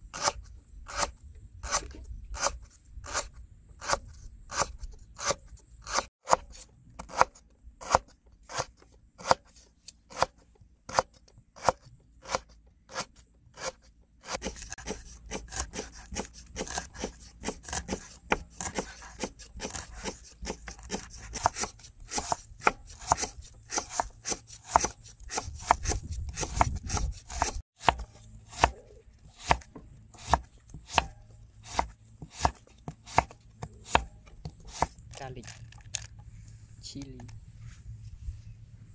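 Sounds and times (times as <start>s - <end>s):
knife chopping on wooden board: 1.0s - 9.5s, 10.1s - 35.1s.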